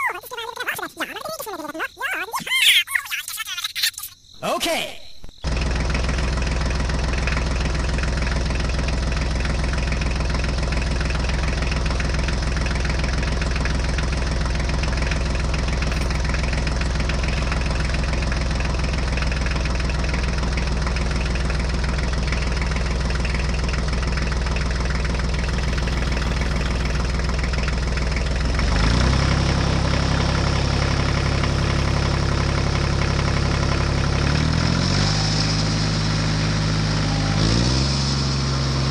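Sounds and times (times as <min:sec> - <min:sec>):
tractor engine running: 0:05.2 - 0:38.9.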